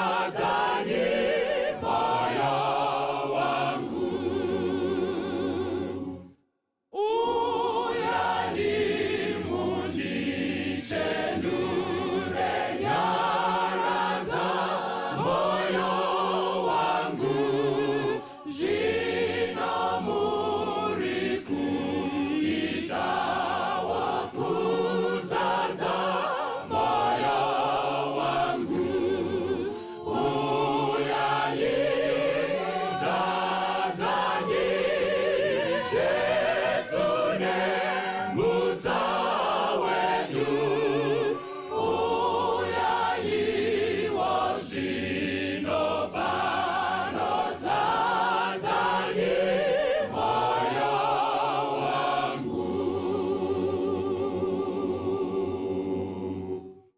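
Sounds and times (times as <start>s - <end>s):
choir singing in harmony: 0.0s - 56.9s.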